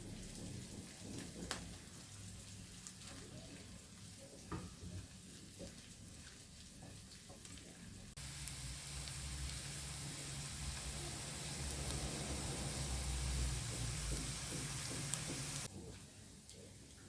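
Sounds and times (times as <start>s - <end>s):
food sizzling in a frying pan: 0.0s - 15.7s.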